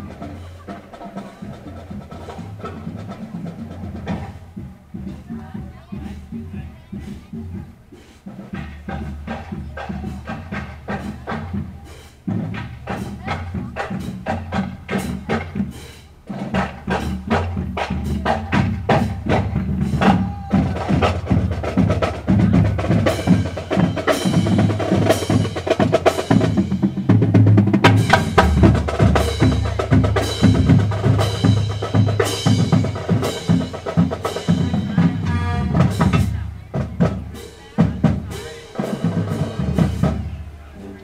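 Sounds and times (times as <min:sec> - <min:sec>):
brass and saxophones: 0:00.0 - 0:41.0
drums beating steady rhythm: 0:00.0 - 0:41.0
marching band playing: 0:00.0 - 0:41.0.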